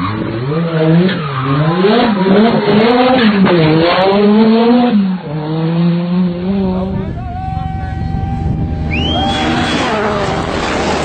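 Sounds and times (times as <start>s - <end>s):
rally car engine revving: 0.0s - 11.0s
tyre and road noise: 0.0s - 11.0s.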